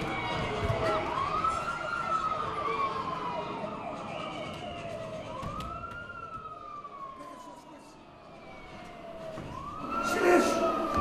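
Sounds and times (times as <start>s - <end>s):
wailing emergency siren: 0.0s - 11.0s.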